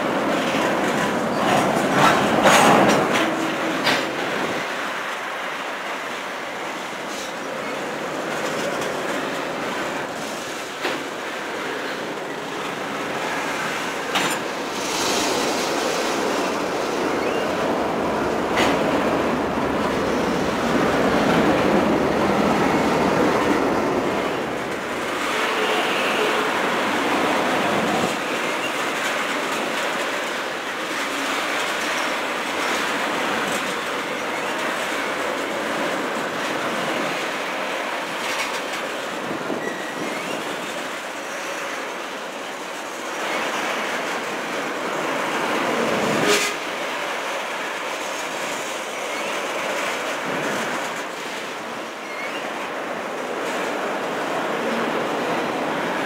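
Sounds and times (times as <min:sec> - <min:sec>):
rail clicks: 0:00.0 - 0:56.0
train wheels on rails: 0:00.0 - 0:56.0.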